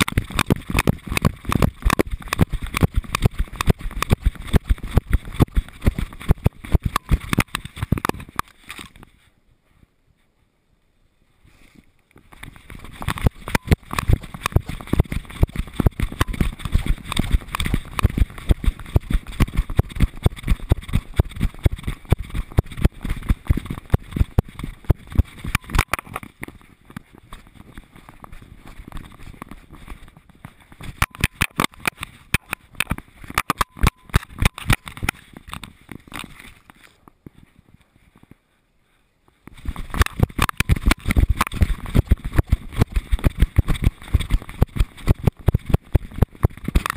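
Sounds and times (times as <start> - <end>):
camera housing knocking and rattling: 0.0 - 8.9, 12.2 - 29.6, 30.8 - 36.8, 39.5 - 46.9.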